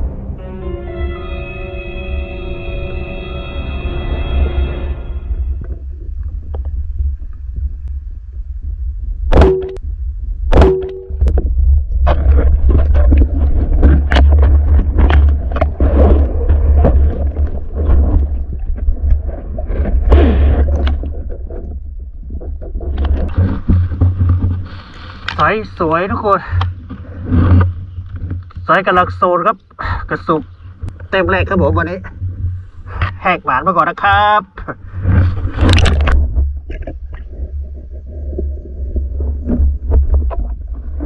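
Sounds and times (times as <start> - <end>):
low rumble of water: 0.0 - 41.0.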